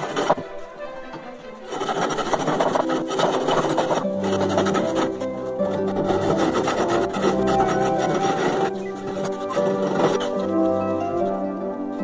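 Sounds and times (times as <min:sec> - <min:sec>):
hand saw rasping through wood: 0:00.0 - 0:11.9.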